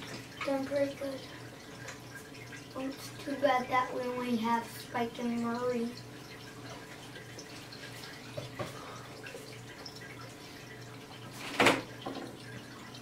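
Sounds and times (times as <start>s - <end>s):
pump humming: 0.0s - 13.0s
water trickling and dripping: 0.0s - 13.0s.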